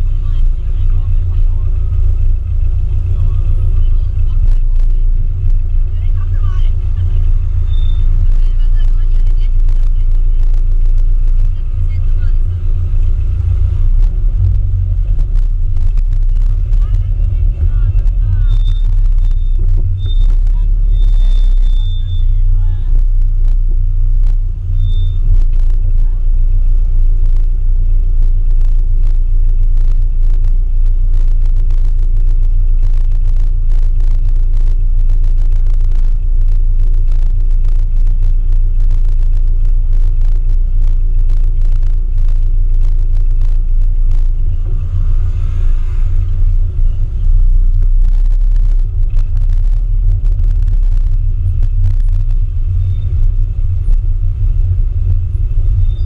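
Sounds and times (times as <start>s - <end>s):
car engine rumbling low: 0.0s - 56.0s.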